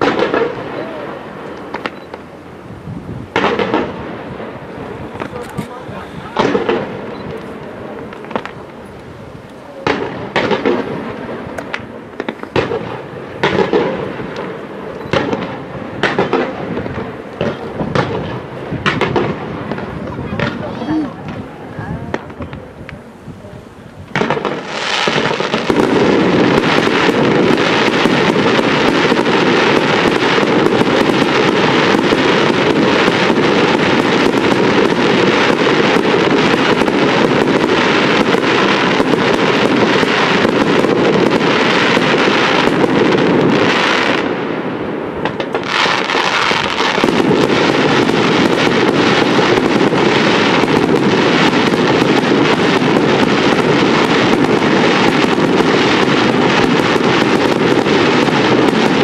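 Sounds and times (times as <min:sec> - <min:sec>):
fireworks bangs and crackle: 0:00.0 - 0:59.0.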